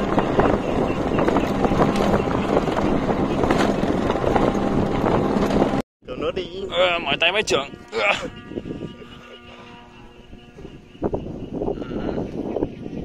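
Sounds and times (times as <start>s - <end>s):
motorbike engine running: 0.0s - 5.8s, 6.7s - 12.2s
wind rushing over microphone: 0.0s - 13.0s.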